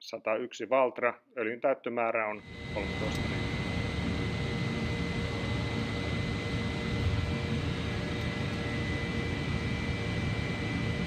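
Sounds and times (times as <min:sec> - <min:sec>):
mechanical hum with high whine: 0:00.0 - 0:11.0.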